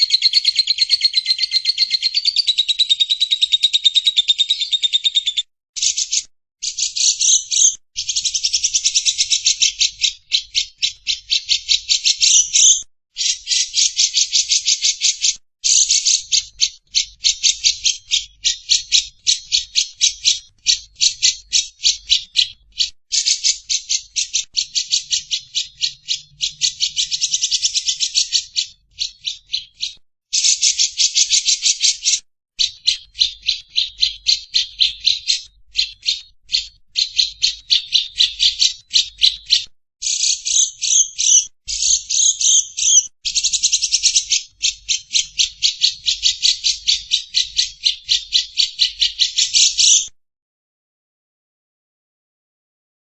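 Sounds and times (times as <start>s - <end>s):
lovebird chattering: 0.0s - 50.1s.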